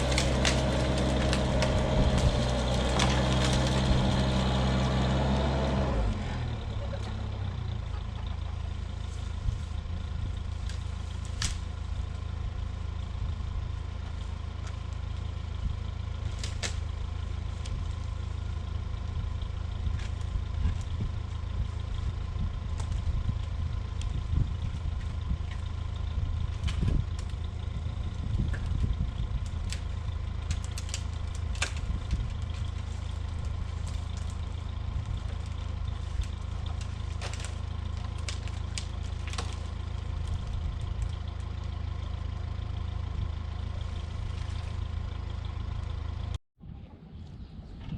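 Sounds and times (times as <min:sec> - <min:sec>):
machinery engine running: 0:00.0 - 0:46.4.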